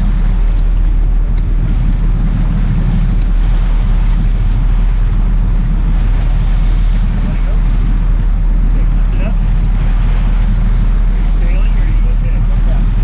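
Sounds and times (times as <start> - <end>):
boat engine: 0.0 - 13.0
water churning: 0.0 - 13.0
wind buffeting the microphone: 0.0 - 13.0.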